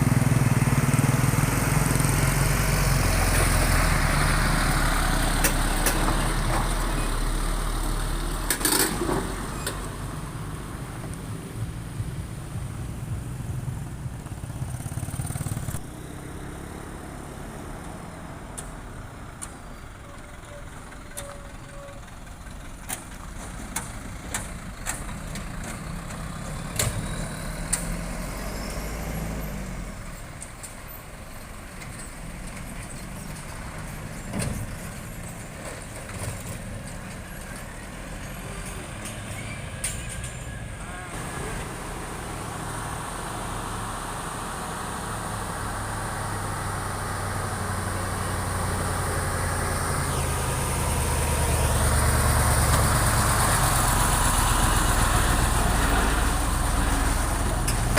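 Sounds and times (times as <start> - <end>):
truck engine running at low revs: 0.0 - 57.9.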